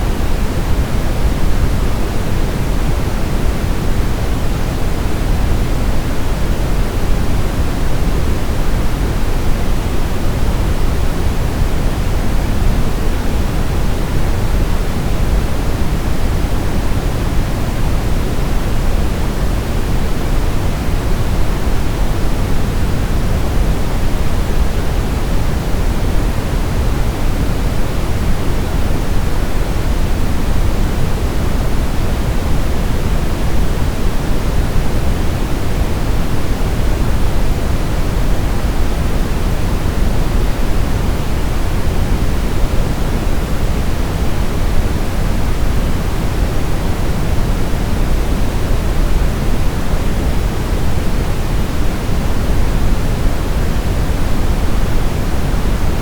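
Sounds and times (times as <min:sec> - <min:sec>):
brown noise hiss: 0:00.0 - 0:56.0.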